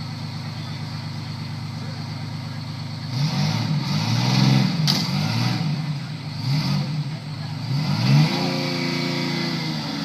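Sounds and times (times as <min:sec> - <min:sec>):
fire truck engine revving: 0:00.0 - 0:10.0.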